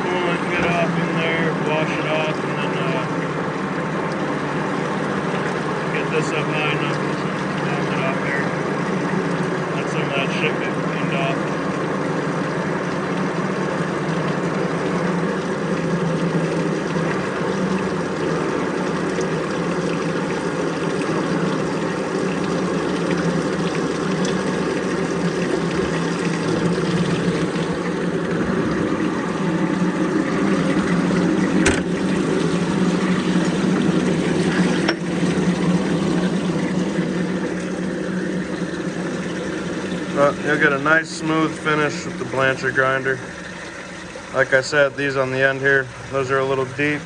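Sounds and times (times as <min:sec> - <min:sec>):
milling machine hum: 0:00.0 - 0:47.0.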